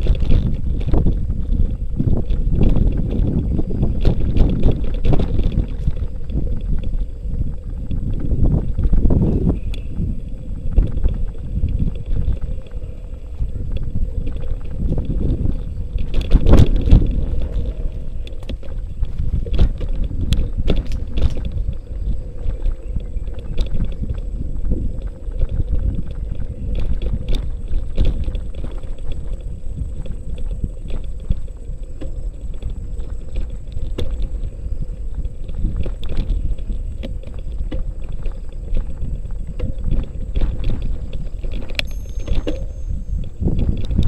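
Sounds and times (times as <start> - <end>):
bike rattling over dirt track: 0.0 - 44.0
wind on microphone: 0.0 - 44.0.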